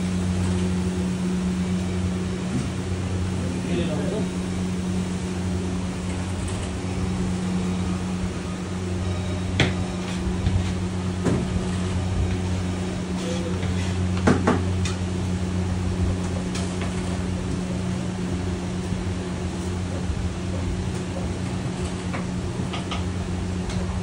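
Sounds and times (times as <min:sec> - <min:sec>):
kitchen machinery humming: 0:00.0 - 0:24.0.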